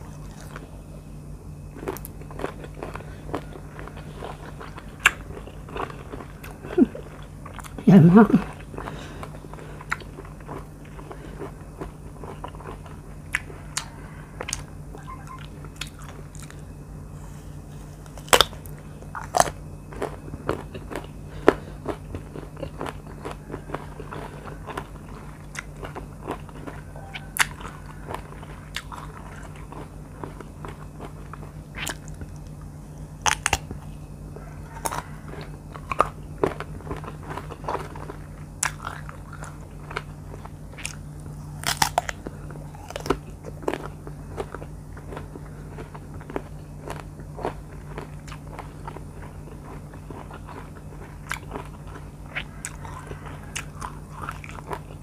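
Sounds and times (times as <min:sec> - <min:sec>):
crunchy bites and chewing: 0:00.0 - 0:07.8, 0:08.4 - 0:55.0.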